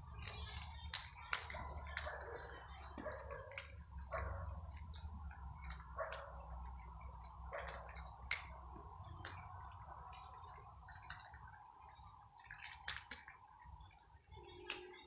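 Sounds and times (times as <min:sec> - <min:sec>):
cats crunching dry kibble: 0:00.0 - 0:15.0.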